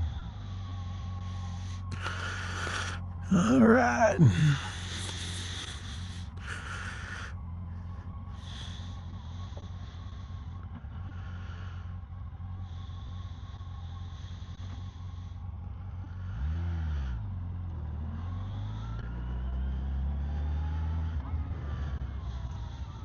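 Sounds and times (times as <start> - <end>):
vehicle engine idling and revving: 0.0 - 23.0.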